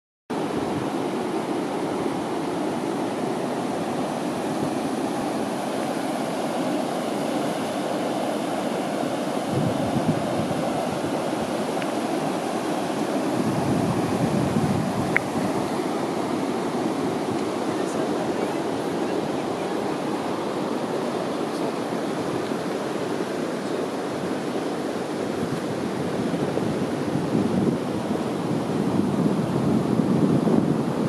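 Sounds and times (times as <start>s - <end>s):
river water pouring over weir: 0.4s - 31.0s
wind gusting on microphone: 0.4s - 31.0s.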